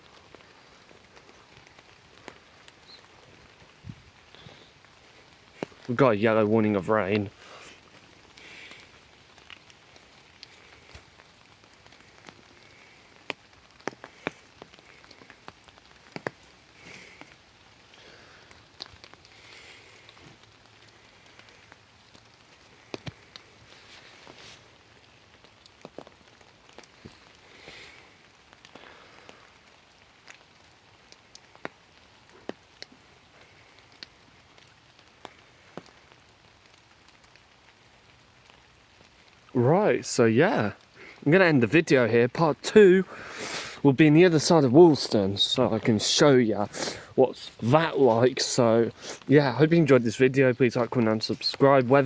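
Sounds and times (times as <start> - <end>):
raindrops tapping close by: 0.0 - 52.0
steady rain hiss: 0.0 - 52.0.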